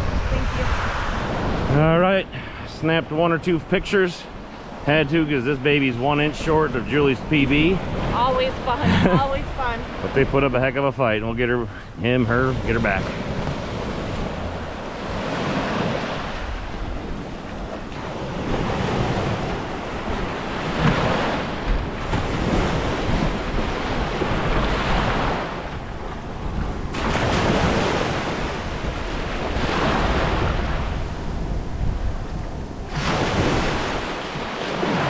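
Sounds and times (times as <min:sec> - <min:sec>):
waves breaking on sand: 0:00.0 - 0:35.0.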